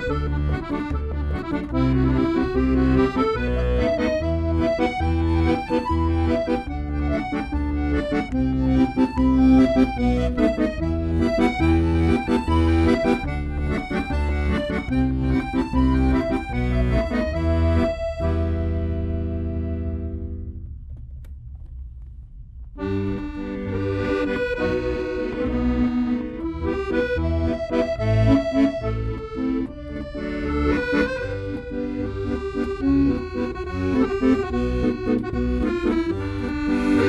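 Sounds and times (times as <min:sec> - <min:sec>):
accordion playing a tune: 0:00.0 - 0:20.5, 0:22.8 - 0:37.0.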